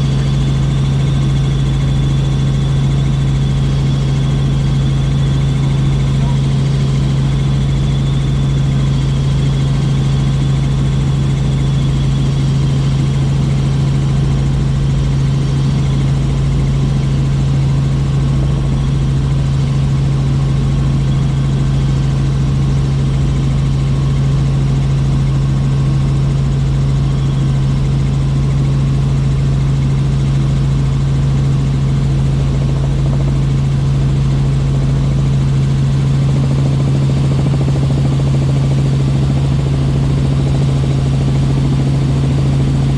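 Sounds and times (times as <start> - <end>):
helicopter engine and rotors drone: 0.0 - 42.9.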